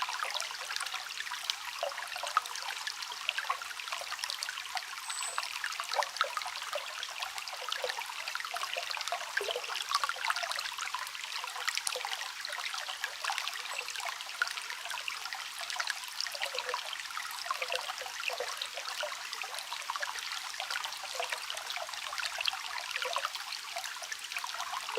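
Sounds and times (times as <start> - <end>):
stream babbling over stones: 0.0 - 24.9.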